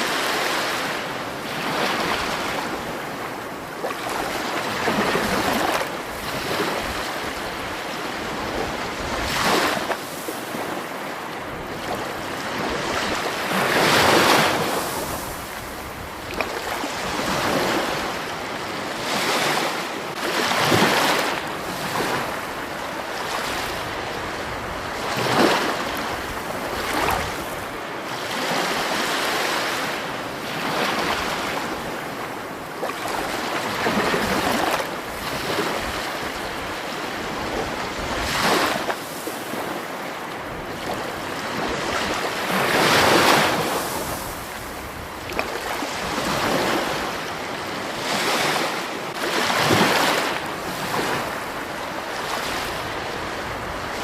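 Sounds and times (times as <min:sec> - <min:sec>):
water rushing in surges: 0:00.0 - 0:54.0.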